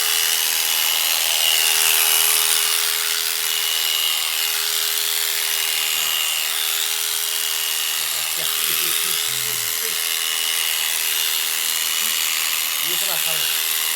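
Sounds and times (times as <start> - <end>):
electric shearing machine whining: 0.0 - 13.9.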